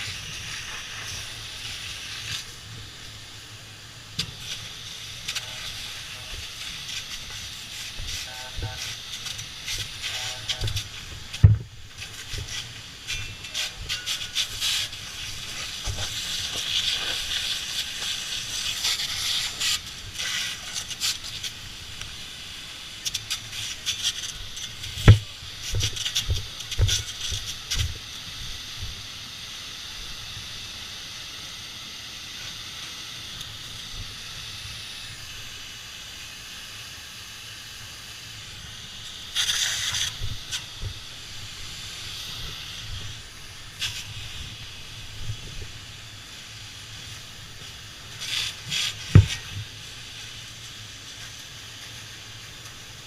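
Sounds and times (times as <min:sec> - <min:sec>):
hose nozzle spraying water: 0:00.0 - 0:53.0.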